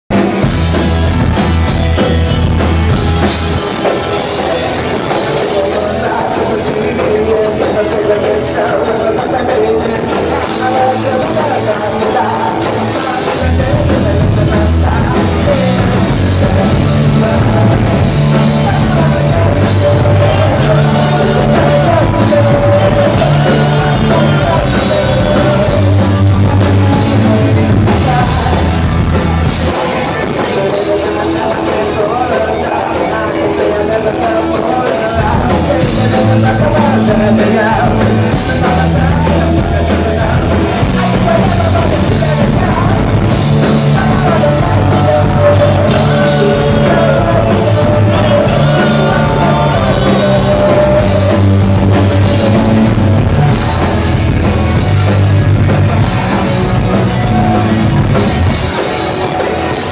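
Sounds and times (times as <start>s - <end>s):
live punk rock band: 0.1s - 59.9s
man singing lead: 0.1s - 59.9s.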